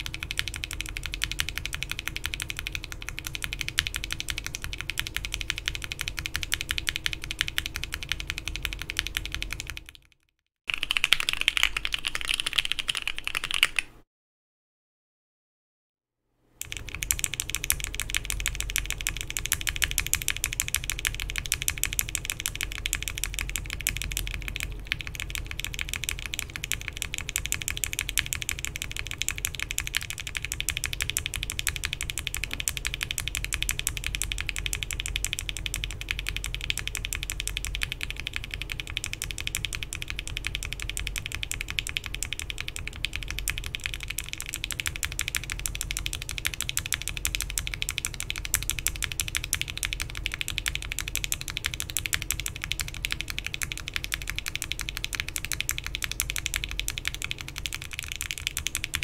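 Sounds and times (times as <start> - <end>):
fast mechanical keyboard typing: 0.0 - 14.0, 16.6 - 59.0.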